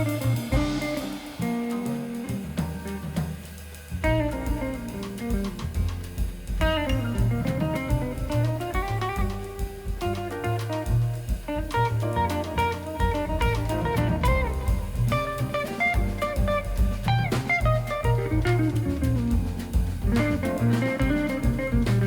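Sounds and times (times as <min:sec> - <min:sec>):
guitar and drum music: 0:00.0 - 0:22.0.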